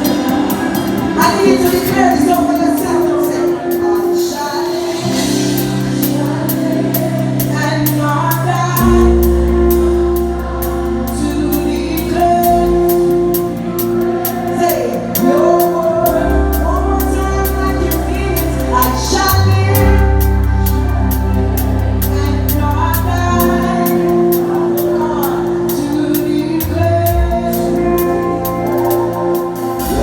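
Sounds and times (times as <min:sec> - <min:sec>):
gospel singing: 0:00.0 - 0:30.0
steady beat: 0:04.9 - 0:30.0
sustained bass notes: 0:05.0 - 0:30.0.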